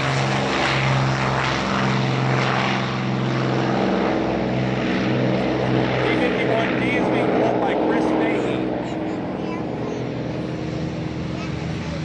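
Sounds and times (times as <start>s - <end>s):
propeller aircraft engine drone: 0.0s - 12.0s.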